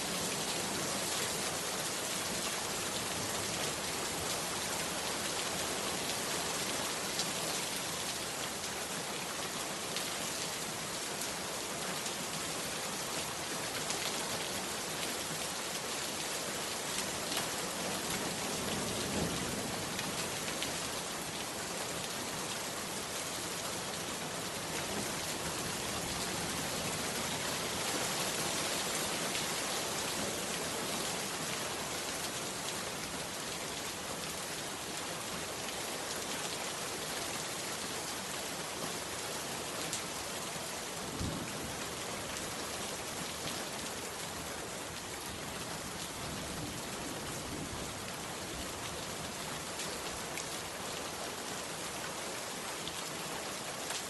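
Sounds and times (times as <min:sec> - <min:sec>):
heavy rain on a hut: 0:00.0 - 0:54.0.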